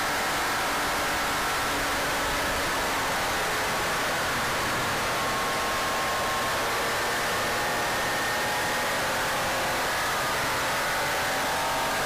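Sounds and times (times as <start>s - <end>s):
car engine whine: 0.1s - 12.0s.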